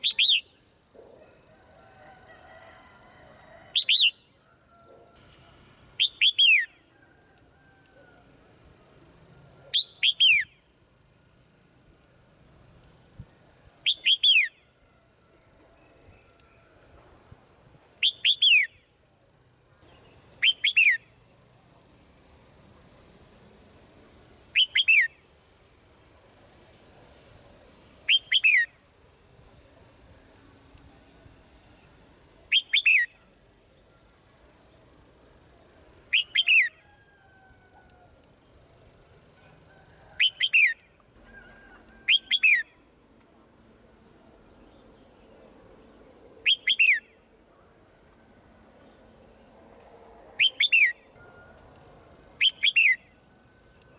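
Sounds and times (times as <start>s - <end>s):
steady high-pitched hiss: 0.0s - 53.9s.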